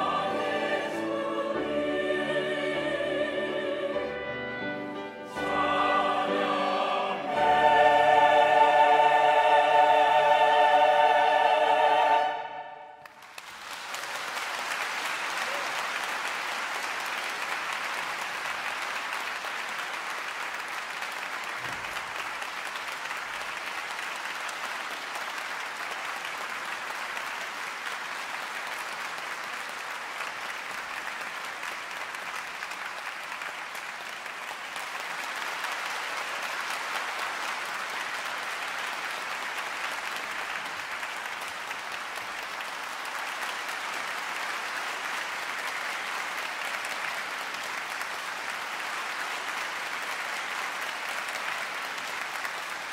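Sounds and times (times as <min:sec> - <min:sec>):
audience applauding: 0:05.5 - 0:52.9.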